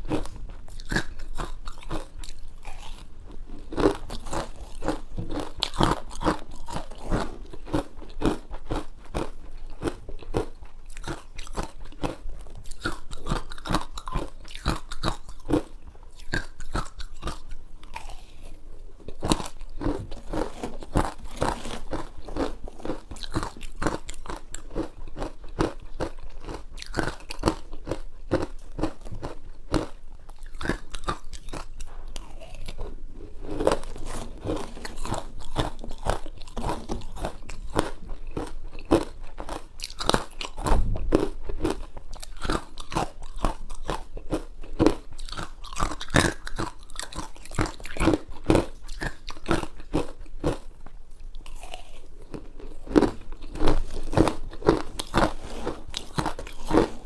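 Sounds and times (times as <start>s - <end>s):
ice being crunched and chewed: 0.0s - 57.0s.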